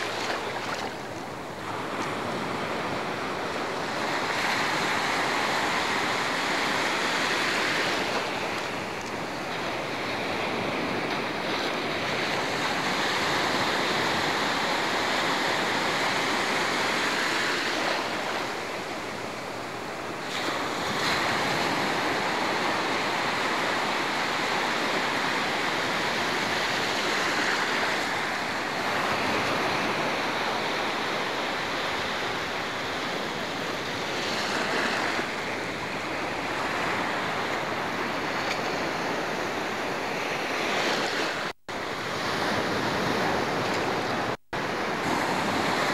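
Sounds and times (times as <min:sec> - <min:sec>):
sea surf washing in: 0:00.0 - 0:45.9.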